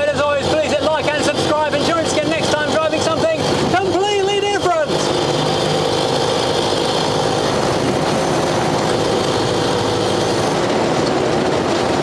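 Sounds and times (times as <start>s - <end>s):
drivetrain and road noise: 0.0s - 12.0s
truck engine pulling steadily: 0.0s - 12.0s.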